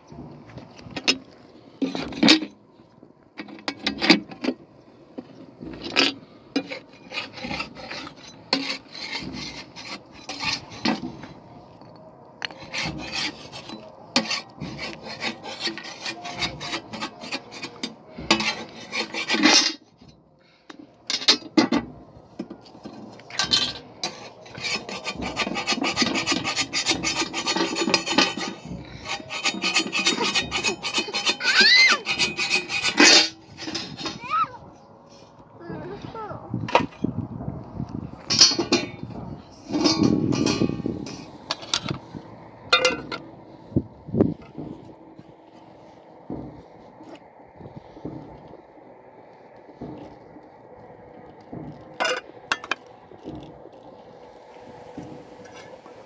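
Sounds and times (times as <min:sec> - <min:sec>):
scraping and rasping strokes: 0:00.0 - 0:37.2, 0:38.0 - 0:56.0.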